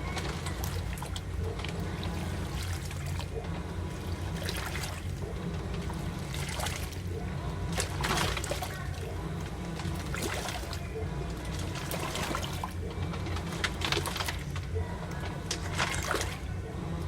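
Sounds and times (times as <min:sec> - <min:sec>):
steady low hum: 0:00.0 - 0:17.0
water splashing in washing machine: 0:00.0 - 0:17.0.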